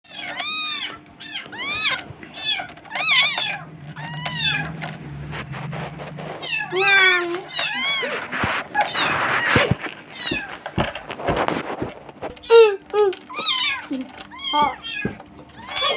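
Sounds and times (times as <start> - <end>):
kittens mewing: 0.1 - 5.2, 6.4 - 11.1, 12.3 - 15.9.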